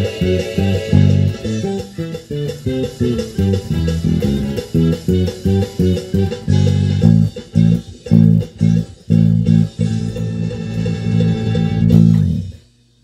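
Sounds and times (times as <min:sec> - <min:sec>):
electric bass plucked notes: 0:00.0 - 0:12.6.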